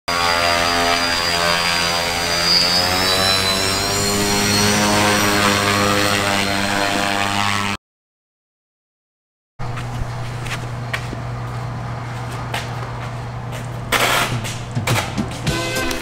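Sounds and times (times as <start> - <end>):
propeller engine droning: 0.1 - 7.8, 9.6 - 16.0.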